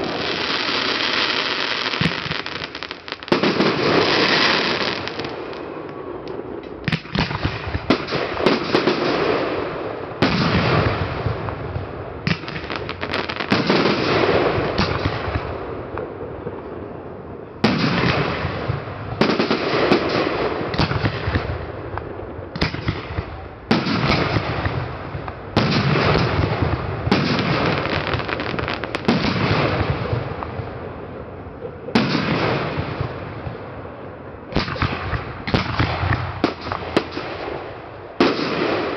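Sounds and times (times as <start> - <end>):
firework shells booming: 0.0 - 16.1, 17.6 - 30.8, 34.5 - 38.9.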